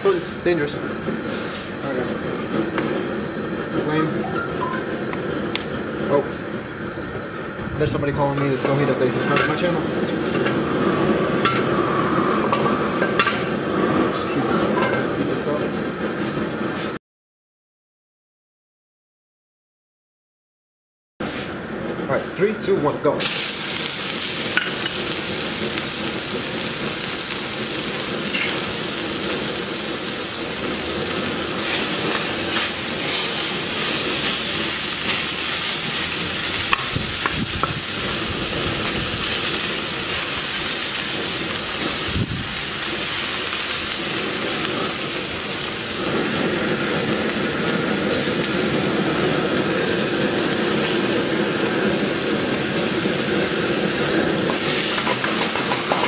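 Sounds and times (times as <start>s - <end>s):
meat sizzling in a wok: 0.0s - 16.9s, 23.2s - 56.0s.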